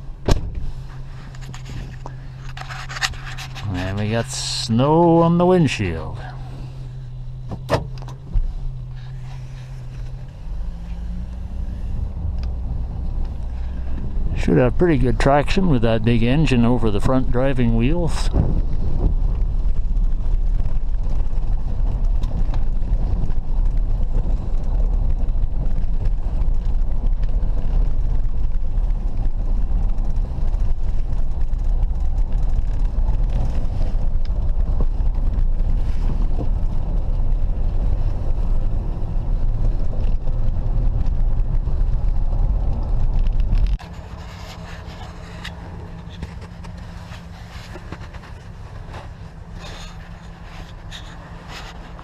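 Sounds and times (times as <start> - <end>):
car engine low rumble: 0.0 - 52.0.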